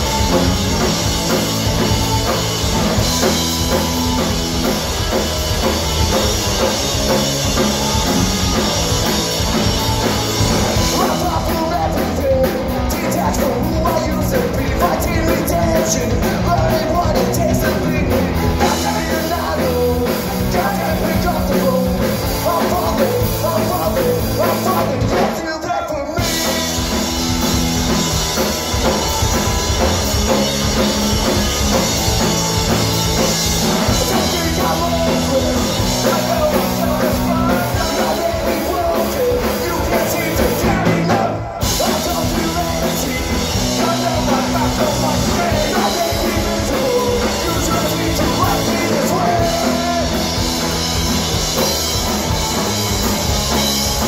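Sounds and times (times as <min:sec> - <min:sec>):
bass guitar: 0:00.0 - 0:54.0
distorted electric guitars: 0:00.0 - 0:54.0
drum kit: 0:00.0 - 0:54.0
man singing: 0:05.9 - 0:27.9, 0:28.9 - 0:50.8.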